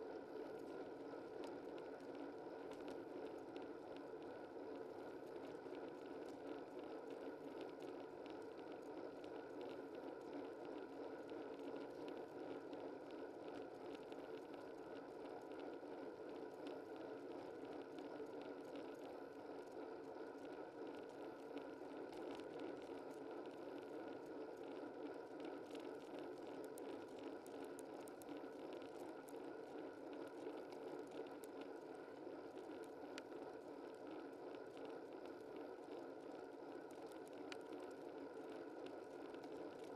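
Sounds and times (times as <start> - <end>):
faint ticks: 0.3 - 39.9.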